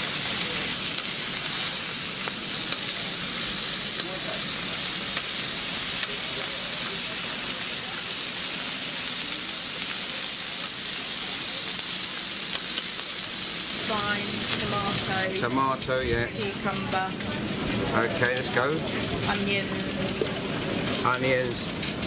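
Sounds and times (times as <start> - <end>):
fish sizzling on griddle: 0.0 - 22.0.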